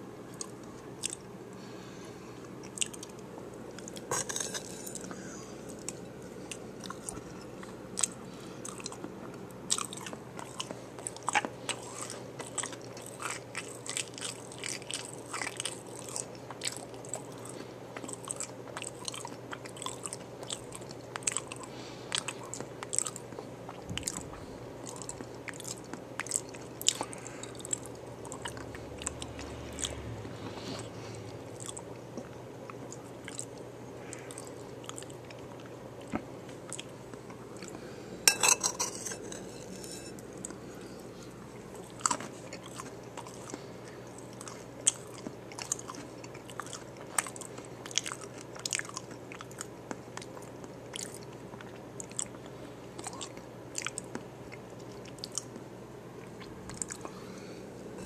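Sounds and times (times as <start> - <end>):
chewing: 0.3 - 1.3, 2.4 - 57.4.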